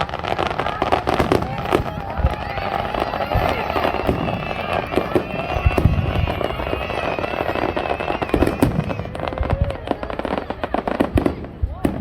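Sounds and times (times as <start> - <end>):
fireworks bangs and crackling: 0.0 - 12.0
heavy firework booms: 0.0 - 12.0.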